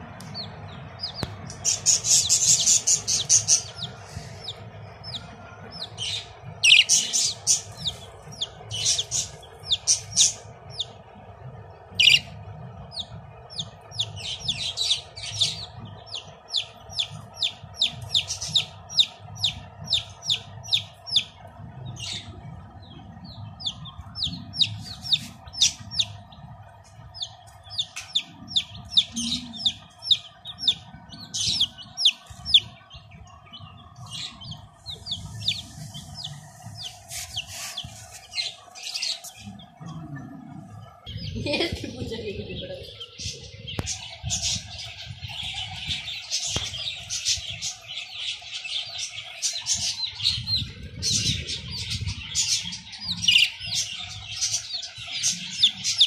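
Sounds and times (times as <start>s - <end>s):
chicks and birds chirping: 0.0s - 56.0s
faint steady hum: 0.0s - 56.0s.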